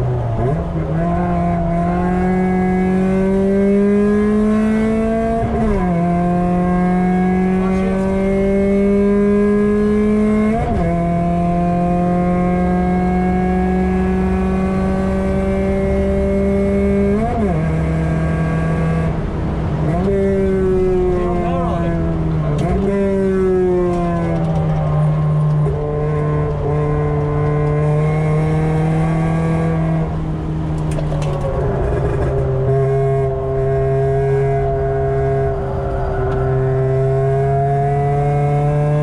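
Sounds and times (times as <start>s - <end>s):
car engine revving hard with upshifts: 0.0s - 39.0s.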